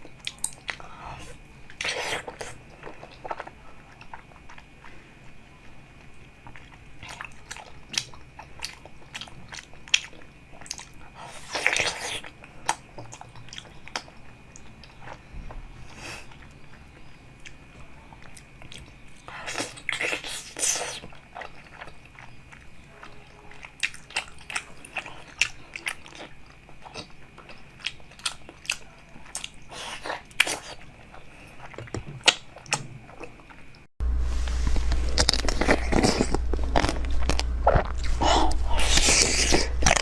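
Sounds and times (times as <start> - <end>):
crunchy chewing: 0.0 - 33.9, 34.8 - 40.0.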